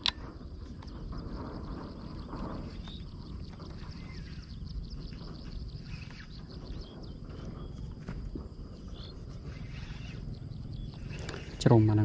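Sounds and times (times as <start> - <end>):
birds and insects chirping: 0.0 - 12.0
low steady rumble: 0.0 - 12.0.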